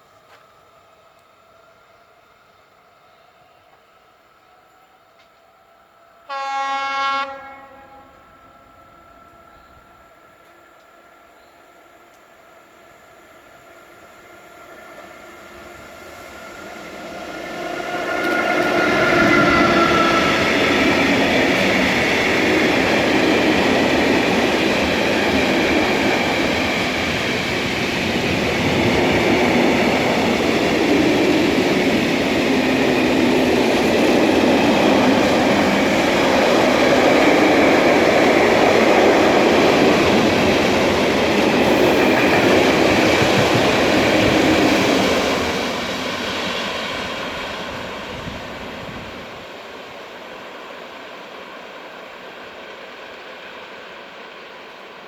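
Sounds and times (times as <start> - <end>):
electric train rumbling past: 0.0 - 55.0
train rattling on rails: 8.1 - 55.0.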